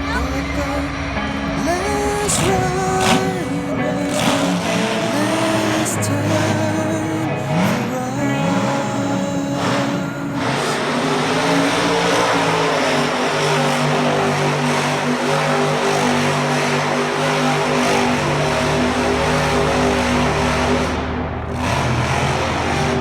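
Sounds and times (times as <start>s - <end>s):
deep low drone: 0.0s - 23.0s
monster truck engine running: 0.0s - 23.0s.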